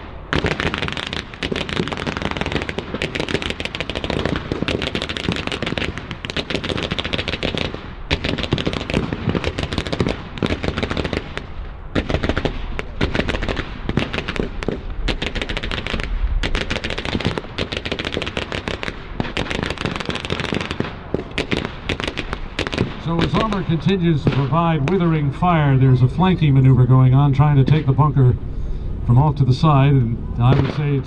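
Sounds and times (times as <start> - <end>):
rifle and machine gun fire: 0.0 - 25.2.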